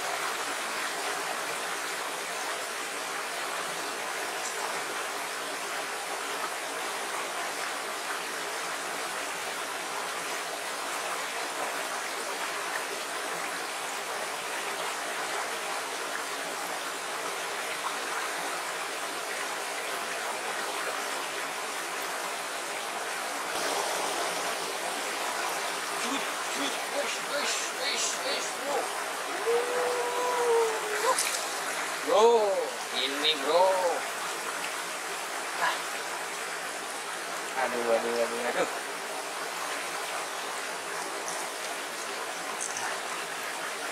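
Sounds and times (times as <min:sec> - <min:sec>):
stream rushing over stones: 0:00.0 - 0:43.9.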